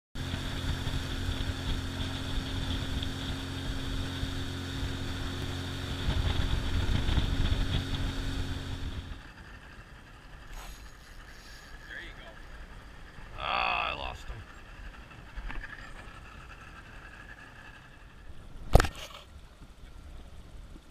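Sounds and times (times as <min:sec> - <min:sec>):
outboard motor running: 0:00.2 - 0:20.5.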